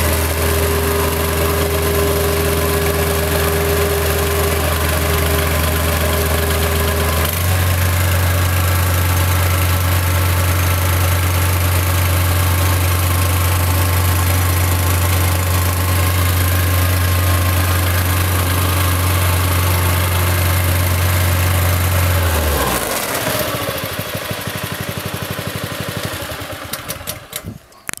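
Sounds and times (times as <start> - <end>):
engine winding down: 0.0 - 27.6
plate compactor engine running: 0.0 - 27.7.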